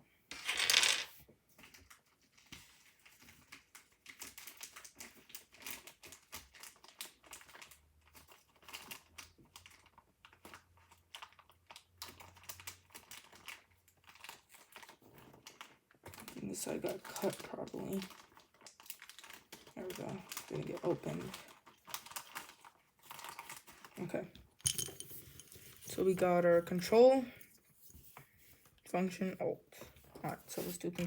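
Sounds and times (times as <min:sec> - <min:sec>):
crinkling: 0:01.6 - 0:28.8.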